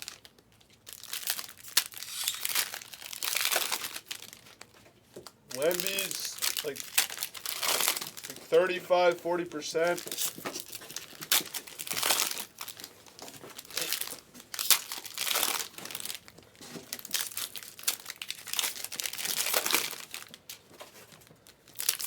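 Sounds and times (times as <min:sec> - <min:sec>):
wrappers crinkling and tearing: 0:00.0 - 0:09.2, 0:09.8 - 0:22.0.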